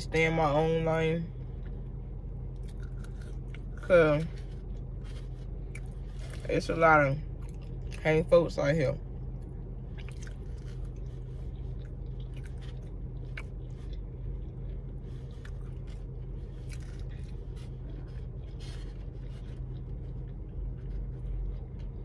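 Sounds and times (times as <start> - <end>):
steady low hum: 0.0 - 22.0
person chewing food: 1.4 - 8.1, 9.0 - 22.0.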